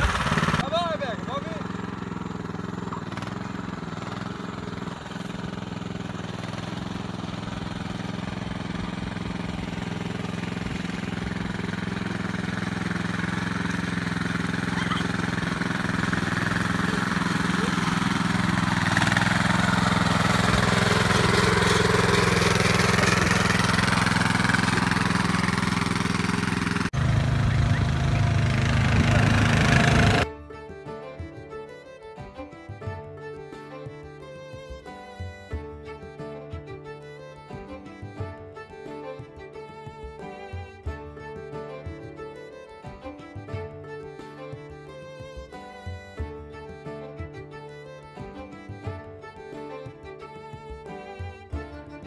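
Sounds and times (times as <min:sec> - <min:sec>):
small tractor engine running: 0:00.0 - 0:52.0.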